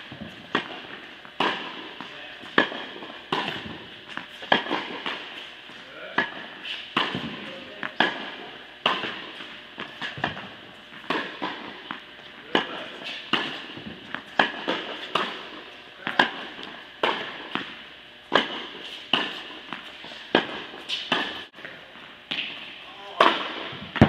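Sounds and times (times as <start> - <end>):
tennis balls struck by rackets: 0.0 - 24.0.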